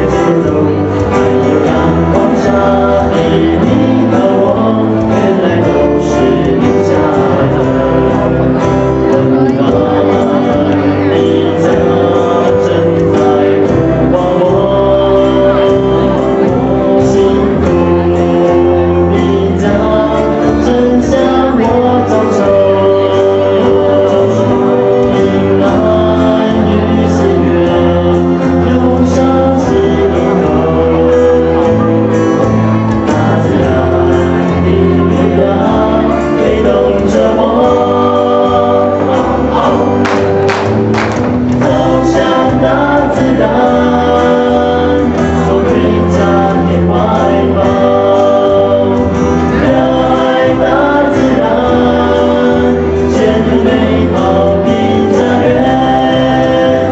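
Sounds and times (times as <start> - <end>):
instrumental backing with bass: 0.0 - 56.9
voices singing a song: 0.0 - 56.9.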